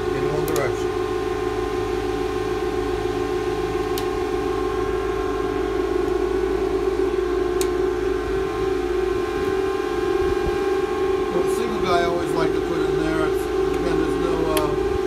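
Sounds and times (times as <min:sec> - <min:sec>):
cooling fans whirring: 0:00.0 - 0:15.0.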